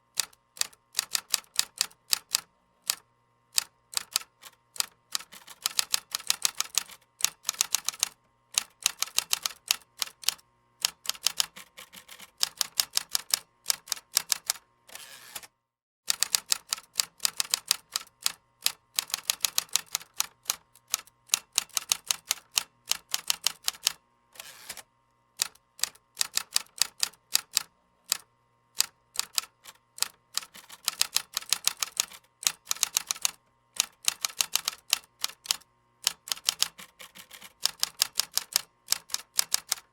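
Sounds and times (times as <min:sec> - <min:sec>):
computer keyboard typing: 0:00.6 - 0:03.0, 0:03.6 - 0:14.6, 0:16.1 - 0:24.0, 0:25.4 - 0:28.2, 0:28.8 - 0:39.9.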